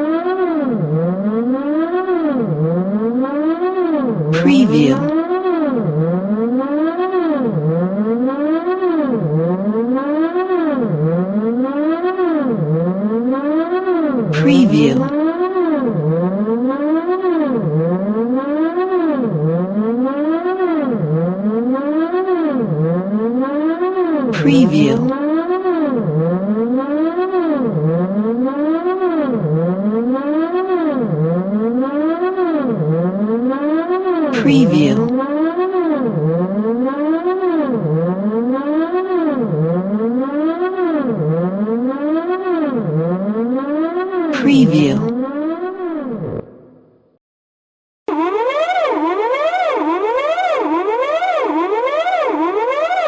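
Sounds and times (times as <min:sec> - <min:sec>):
synthesized alarm siren: 0:00.0 - 0:46.8, 0:48.1 - 0:53.0.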